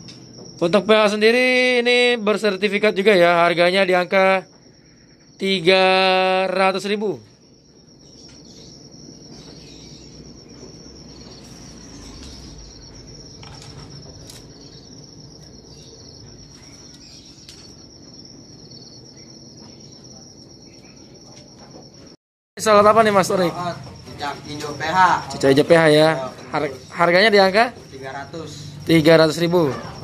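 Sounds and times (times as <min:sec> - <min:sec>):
cricket trilling: 0:00.0 - 0:30.0.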